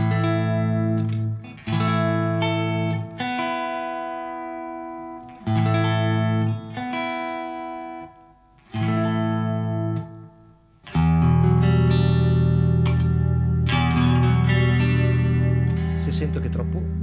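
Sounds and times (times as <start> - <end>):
electric guitar chords with chorus: 0.0 - 16.0.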